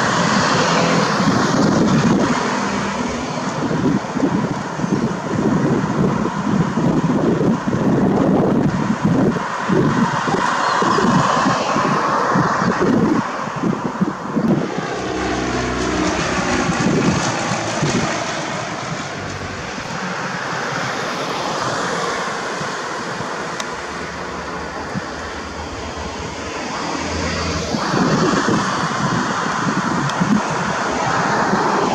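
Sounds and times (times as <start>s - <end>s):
light plane engine at low power: 0.0s - 31.9s
wind gusts on microphone: 0.0s - 31.9s.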